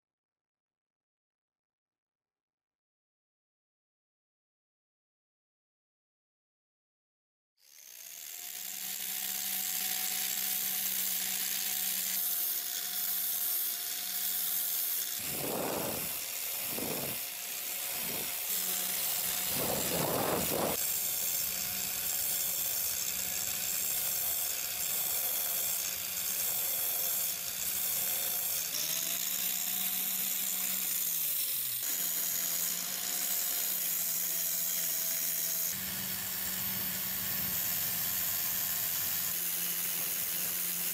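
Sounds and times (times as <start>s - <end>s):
angle grinder sanding metal: 7.6s - 40.9s.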